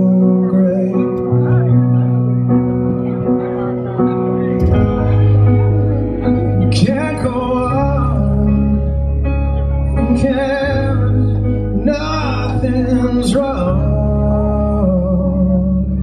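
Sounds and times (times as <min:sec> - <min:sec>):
man singing: 0:00.0 - 0:02.5, 0:04.4 - 0:16.0
acoustic guitar: 0:00.0 - 0:16.0
rock backing band: 0:00.0 - 0:16.0
sustained bass notes: 0:00.0 - 0:16.0.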